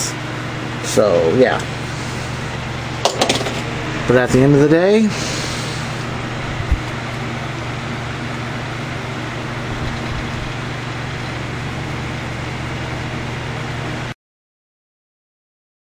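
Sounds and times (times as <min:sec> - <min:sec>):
electric fan running: 0:00.0 - 0:14.2.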